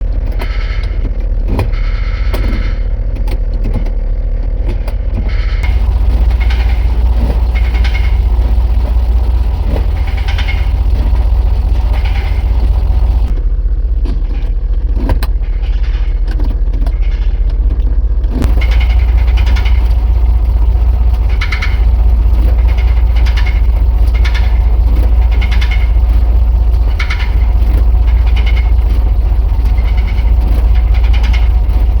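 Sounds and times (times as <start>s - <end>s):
transmission knocking: 0.0s - 13.4s, 16.2s - 32.0s
truck engine hum: 0.0s - 32.0s.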